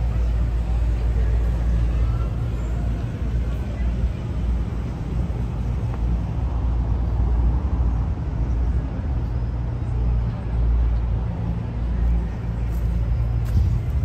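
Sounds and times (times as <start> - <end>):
traffic engines rumbling: 0.0 - 14.0.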